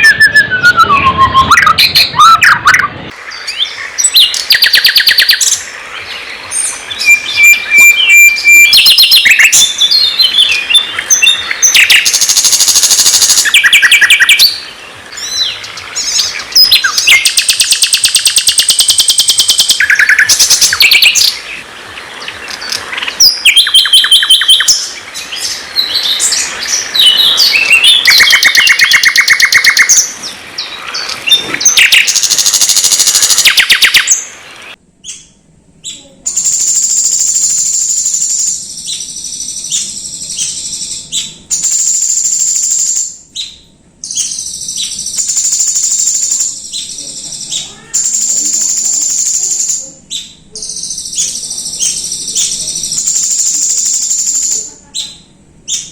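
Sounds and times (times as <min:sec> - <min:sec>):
songbird song: 0:00.0 - 0:55.9.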